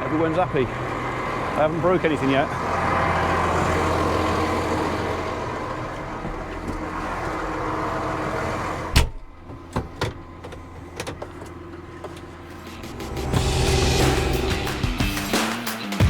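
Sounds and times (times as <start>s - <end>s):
tractor engine running: 0.0s - 15.8s.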